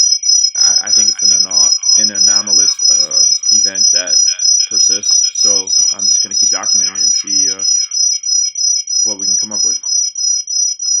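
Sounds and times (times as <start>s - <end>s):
high-pitched cricket-like chirping: 0.0s - 11.0s.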